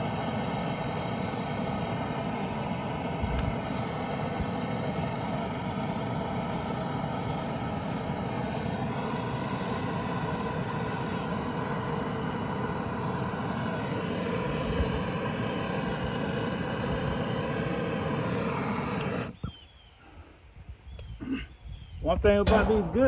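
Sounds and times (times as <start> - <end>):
machine running with held tones: 0.0 - 19.4.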